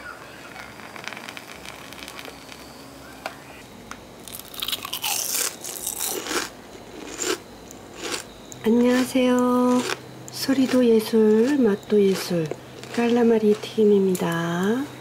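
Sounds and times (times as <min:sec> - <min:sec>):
crunchy food being chewed: 0:00.6 - 0:02.7, 0:04.2 - 0:14.4.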